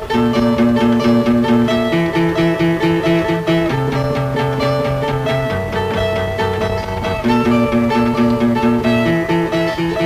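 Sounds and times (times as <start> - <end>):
guitar picking repeated figure: 0.0 - 10.0.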